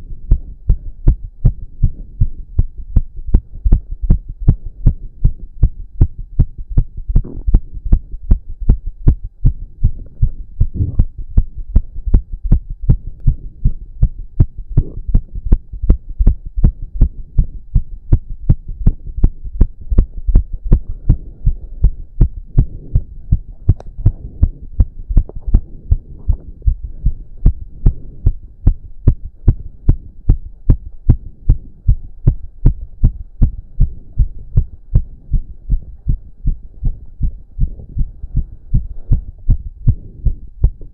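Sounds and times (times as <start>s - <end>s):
fast heartbeat thumps: 0.0s - 40.9s.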